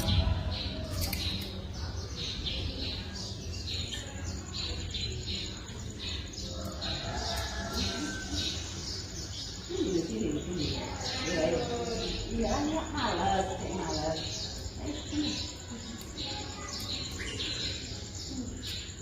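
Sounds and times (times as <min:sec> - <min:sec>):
small bird chirping: 0:00.0 - 0:19.0.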